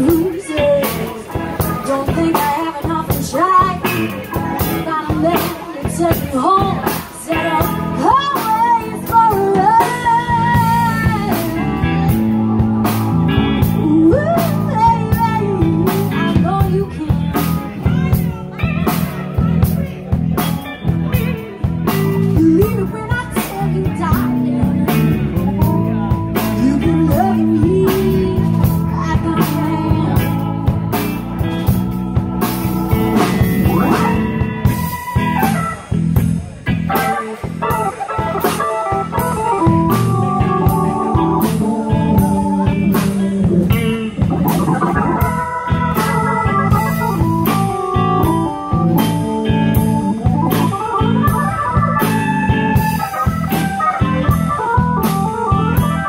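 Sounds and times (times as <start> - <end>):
bending electric guitar lead: 0.0 - 56.0
blues-rock band playing: 0.0 - 56.0.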